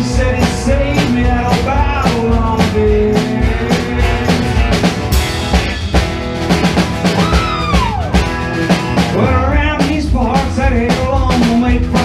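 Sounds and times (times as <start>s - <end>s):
country-rock band playing: 0.0s - 12.0s.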